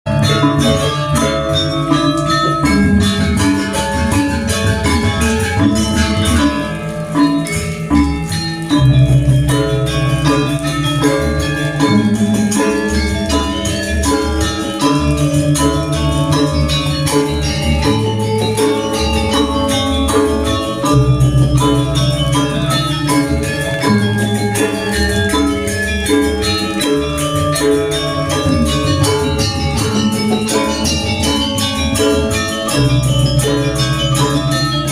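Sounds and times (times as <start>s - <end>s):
gamelan music: 0.0s - 34.9s.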